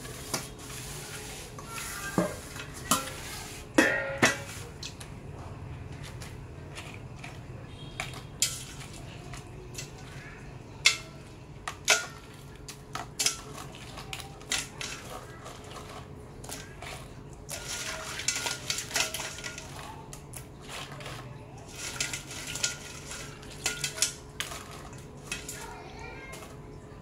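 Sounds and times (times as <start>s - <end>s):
metal utensils and cookware clattering: 0.0s - 5.1s, 5.8s - 27.0s.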